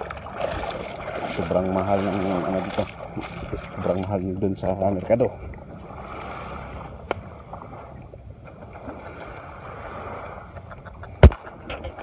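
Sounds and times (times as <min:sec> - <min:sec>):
water noise at shore: 0:00.0 - 0:12.0
wind: 0:00.0 - 0:12.0.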